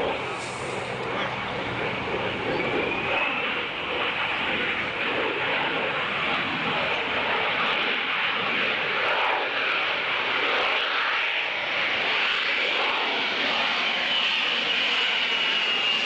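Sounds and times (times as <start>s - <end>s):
jet engine running at high power: 0.0s - 16.0s.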